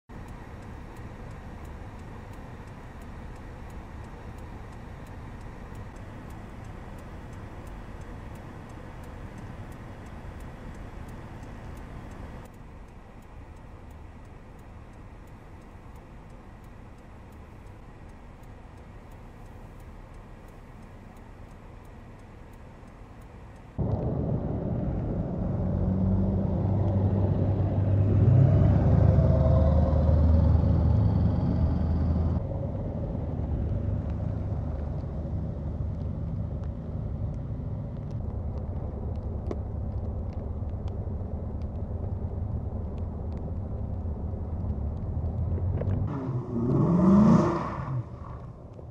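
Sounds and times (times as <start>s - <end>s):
cars driving on snowy road: 0.0s - 48.9s
traffic rumble: 0.0s - 48.9s.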